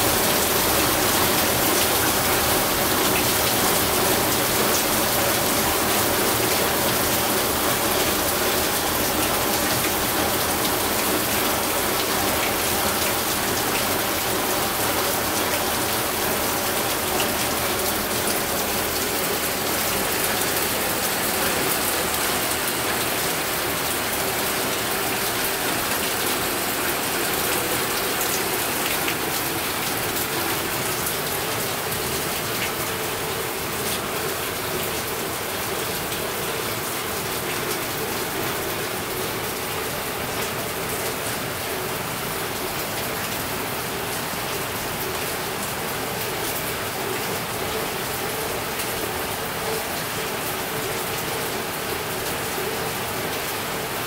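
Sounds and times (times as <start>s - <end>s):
heavy rain on metal roof: 0.0s - 54.0s.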